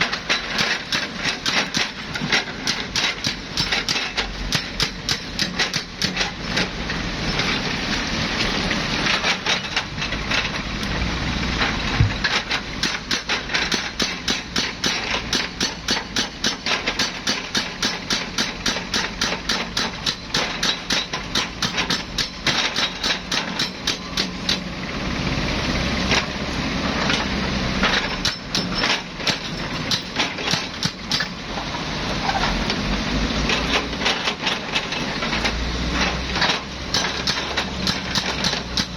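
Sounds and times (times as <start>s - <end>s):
diesel machinery rumbling: 0.0s - 14.0s, 20.2s - 38.9s.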